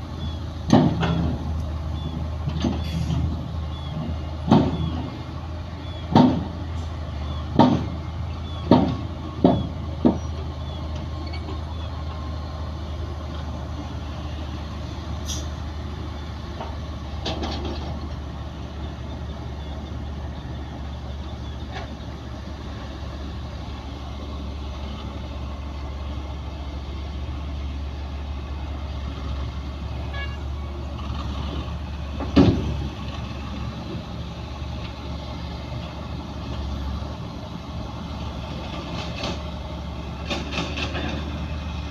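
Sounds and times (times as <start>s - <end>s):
diesel machinery droning: 0.0s - 41.9s.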